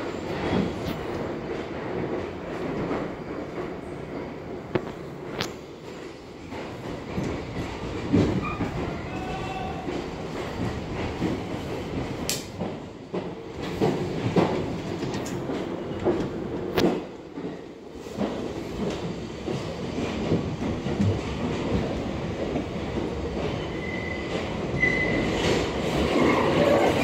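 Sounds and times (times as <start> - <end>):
subway train rumble and rattle: 0.0 - 27.0.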